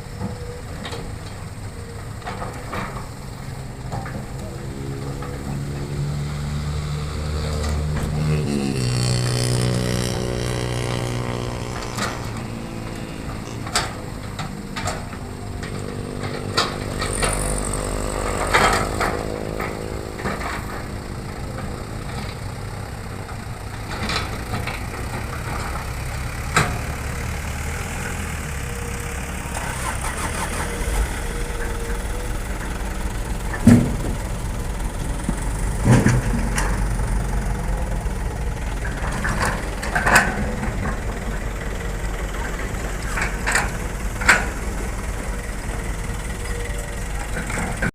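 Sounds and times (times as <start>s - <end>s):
excavator diesel engine revving: 0.0s - 47.9s.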